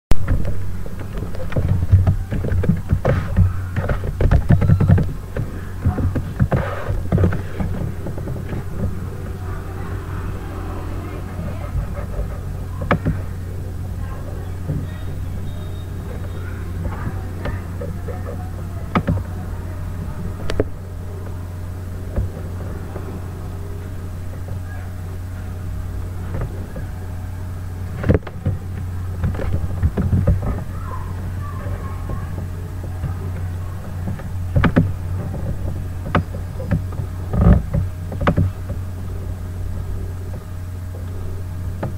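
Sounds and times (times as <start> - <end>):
steady low hum: 0.1 - 41.9.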